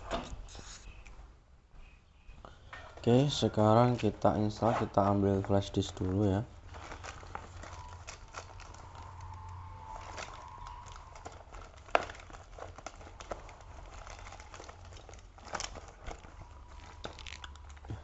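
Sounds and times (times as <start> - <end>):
plastic crinkling: 2.7 - 18.0.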